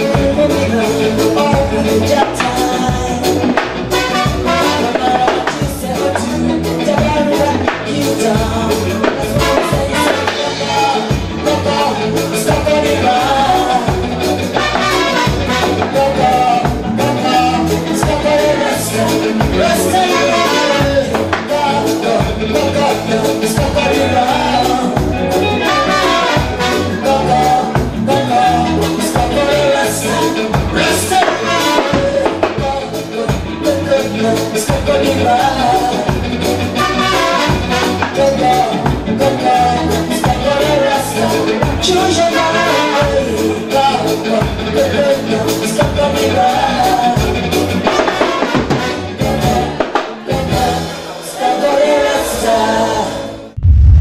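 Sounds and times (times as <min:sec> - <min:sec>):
live band playing dance music: 0:00.0 - 0:54.0
person singing: 0:00.0 - 0:54.0.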